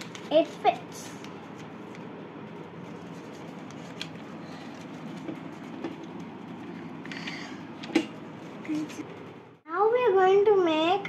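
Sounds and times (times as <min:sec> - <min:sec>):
paper handling sounds: 0:00.0 - 0:09.3
low background hum: 0:00.0 - 0:11.0.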